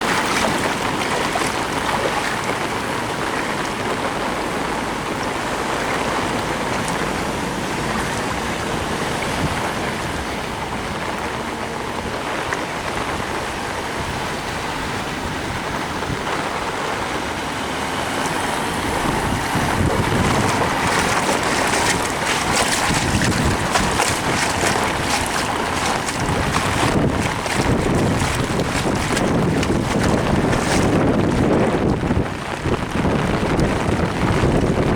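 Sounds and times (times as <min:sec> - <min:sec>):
car tyres sloshing through water: 0:00.0 - 0:34.9
heavy rain: 0:00.0 - 0:34.9.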